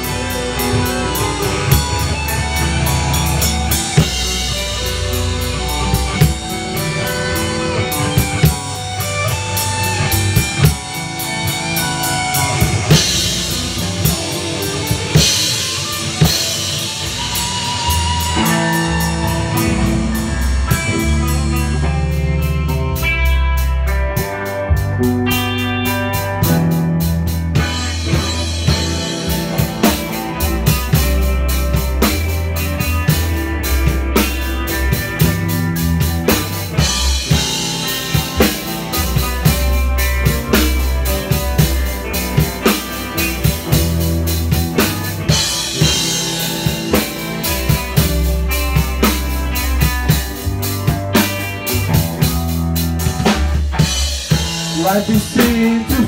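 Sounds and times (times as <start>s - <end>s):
bass line: 0.0s - 56.0s
drum kit beat: 0.0s - 56.0s
electric guitars: 0.0s - 56.0s.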